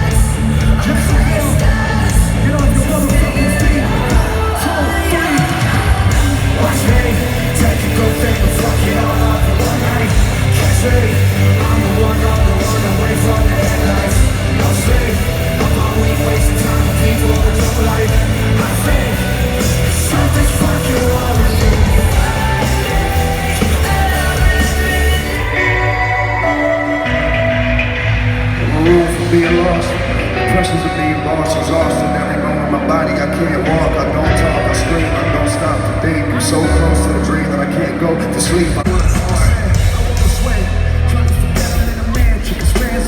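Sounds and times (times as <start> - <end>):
live rock music: 0.0 - 43.0
person singing over band: 0.0 - 43.0.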